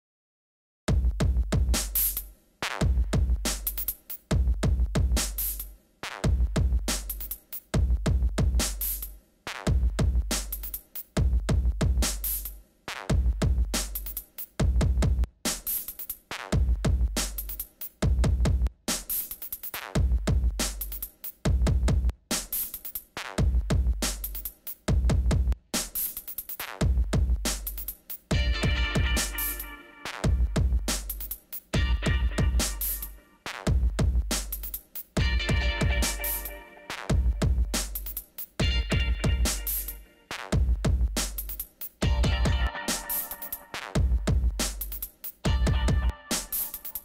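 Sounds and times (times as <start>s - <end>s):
electronic music with drum-machine beat: 0.9s - 47.0s.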